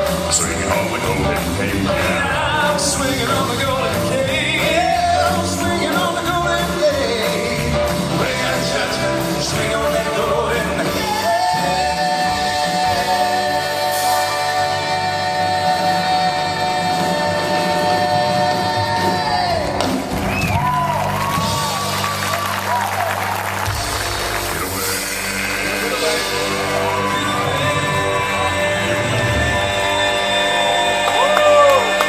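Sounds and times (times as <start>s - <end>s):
vocal quartet singing: 0.0s - 20.1s, 24.7s - 32.0s
band accompaniment: 0.0s - 32.0s.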